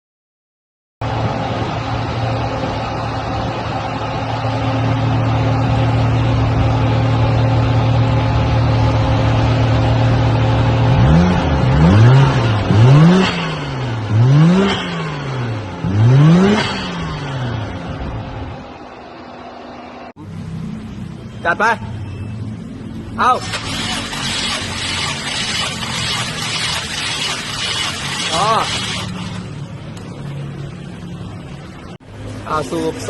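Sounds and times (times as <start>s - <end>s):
car engine idling and revving: 1.0s - 33.0s.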